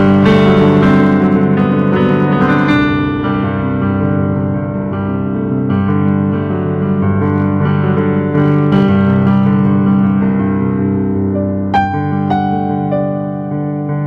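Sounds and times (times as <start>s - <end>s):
keyboard chords: 0.0s - 14.0s.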